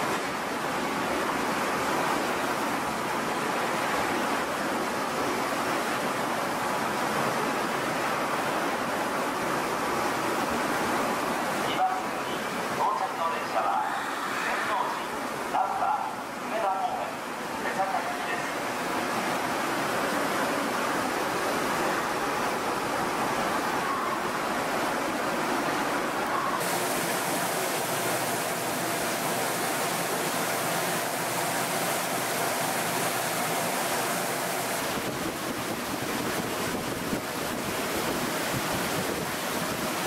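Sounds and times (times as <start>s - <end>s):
subway train equipment and fans humming: 0.0s - 40.0s.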